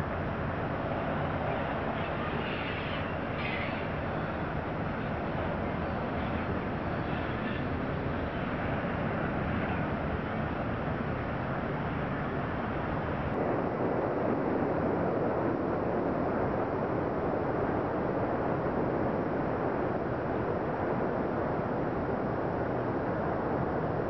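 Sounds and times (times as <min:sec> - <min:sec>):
wind rushing on microphone: 0:00.0 - 0:24.0.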